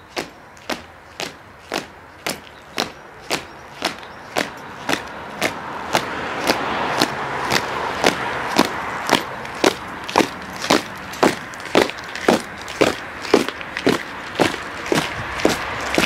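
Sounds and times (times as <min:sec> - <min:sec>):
marching boots on paving stones: 0:00.0 - 0:16.0
rushing background noise: 0:00.0 - 0:16.0.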